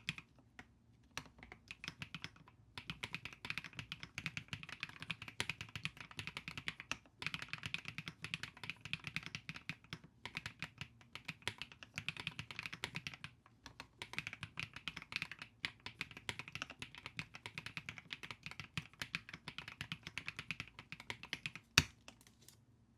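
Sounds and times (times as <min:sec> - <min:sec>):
mechanical keyboard typing: 0:01.2 - 0:21.6.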